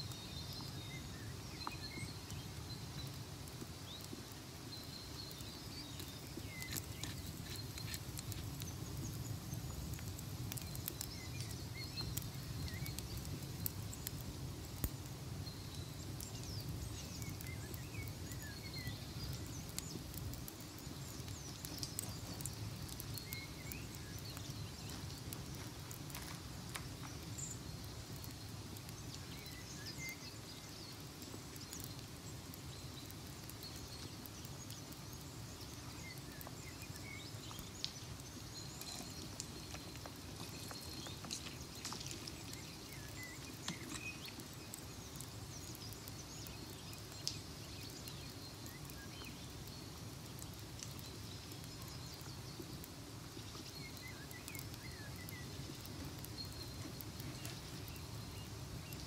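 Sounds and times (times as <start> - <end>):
faint bird chirps: 0.0 - 14.2, 14.8 - 59.0
fire crackling and popping: 0.0 - 59.0
low fire rumble: 0.0 - 59.0.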